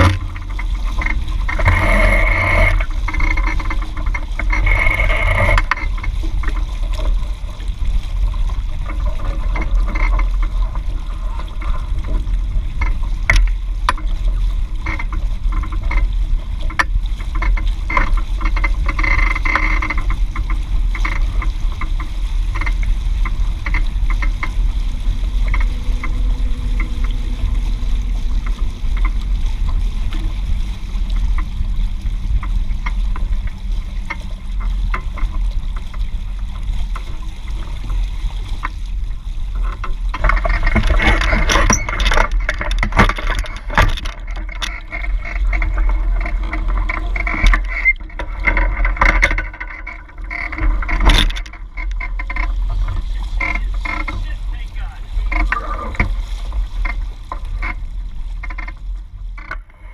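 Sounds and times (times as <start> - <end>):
rush of water: 0.0 - 59.9
water splashes and slaps: 0.0 - 59.9
wind rumble on microphone: 0.0 - 59.9.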